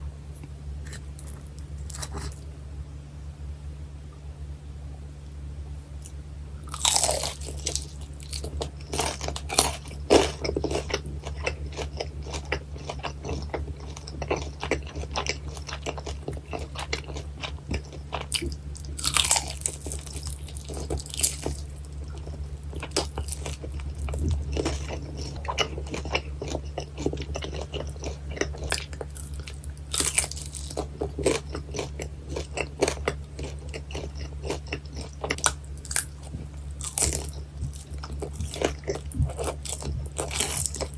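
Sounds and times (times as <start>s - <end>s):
steady low hum: 0.0s - 40.9s
crunchy chewing: 0.3s - 2.5s, 6.0s - 40.9s.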